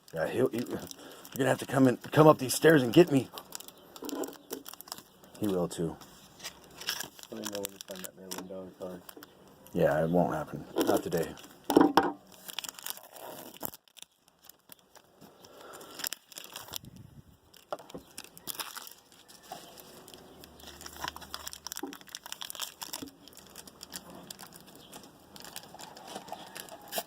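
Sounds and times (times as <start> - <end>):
card pack wrappers crinkling: 0.0 - 27.0.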